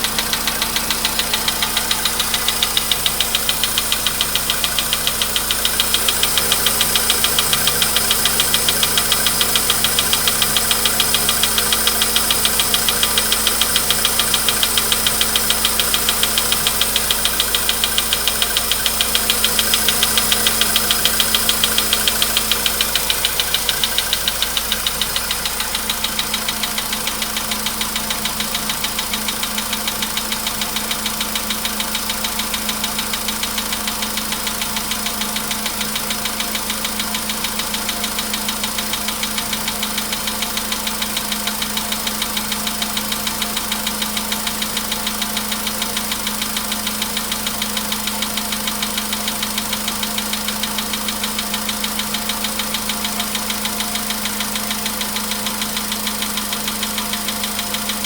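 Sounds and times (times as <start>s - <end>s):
car engine idling: 0.0s - 58.0s
rapid metallic engine knocking: 0.0s - 58.0s.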